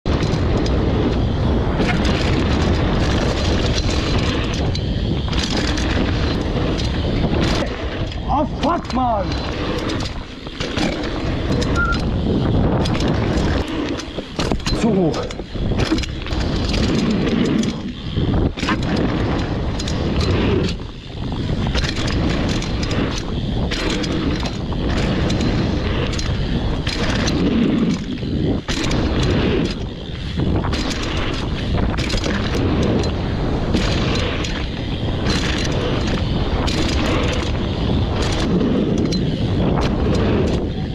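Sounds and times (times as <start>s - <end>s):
bike knocking and rattling: 0.0s - 40.9s
bike tyres rumbling on trail: 0.0s - 40.9s.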